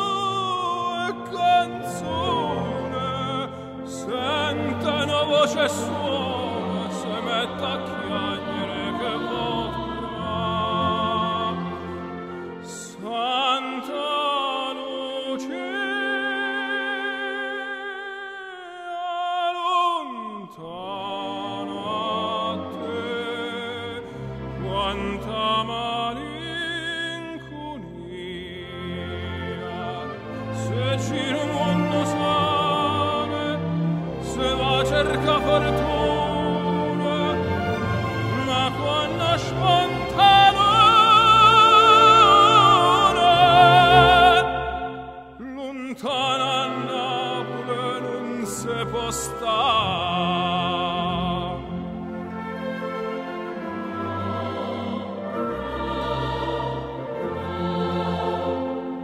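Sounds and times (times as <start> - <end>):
orchestral accompaniment: 0.0 - 17.8, 20.8 - 59.0
operatic singing: 0.0 - 59.0.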